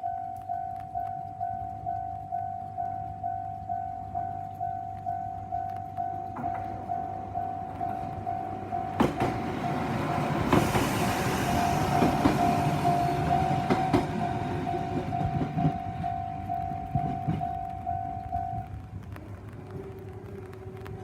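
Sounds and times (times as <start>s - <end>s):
level crossing warning bell: 0.0s - 18.7s
train rumble and wheel clacks: 0.4s - 21.0s.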